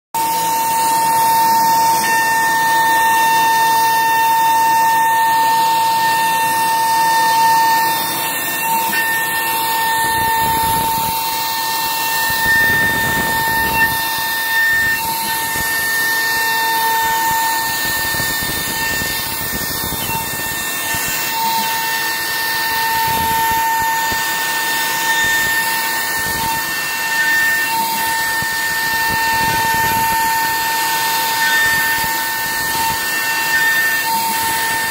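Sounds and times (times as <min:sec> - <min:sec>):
router spindle whining: 0:00.2 - 0:34.9.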